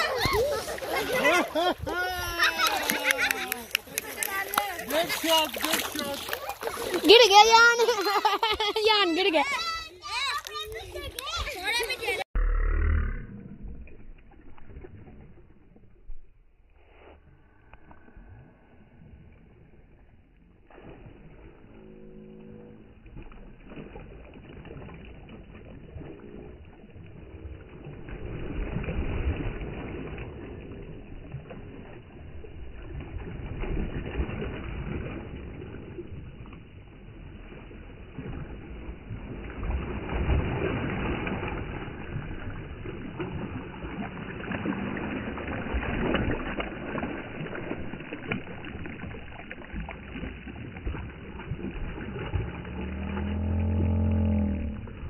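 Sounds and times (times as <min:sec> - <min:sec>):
feet splashing through water: 0:00.0 - 0:12.2, 0:13.7 - 0:55.0.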